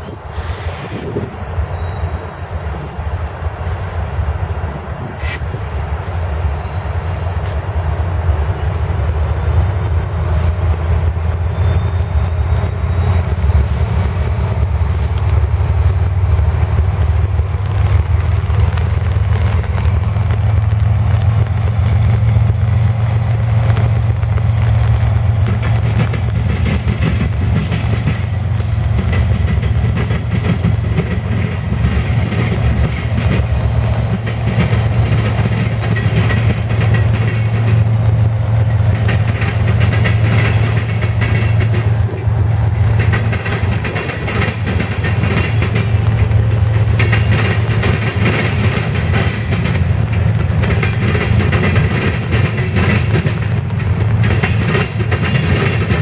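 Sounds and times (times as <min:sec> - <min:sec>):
diesel locomotive low drone: 0:00.0 - 0:56.0
train wheels clicking over rails: 0:00.0 - 0:56.0.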